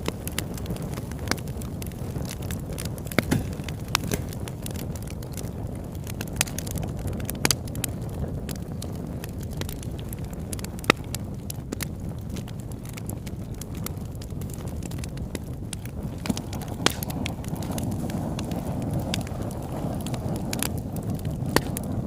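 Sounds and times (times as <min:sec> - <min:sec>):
burning wood crackling and popping: 0:00.0 - 0:22.0
low rush of fire: 0:00.0 - 0:22.0.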